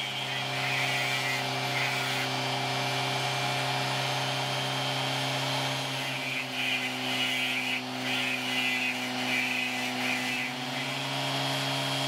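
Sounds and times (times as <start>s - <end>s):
rotary tool grinding slate: 0.0s - 12.0s.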